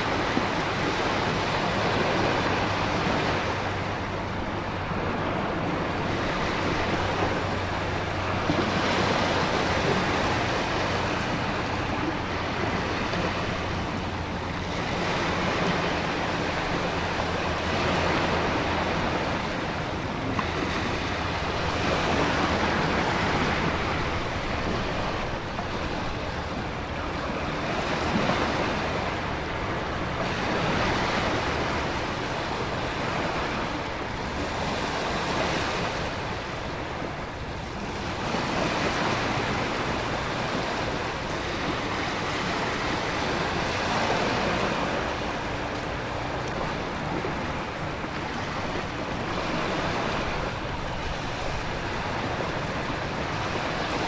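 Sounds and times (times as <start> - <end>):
ocean waves crashing: 0.0 - 54.0
wind: 0.0 - 54.0.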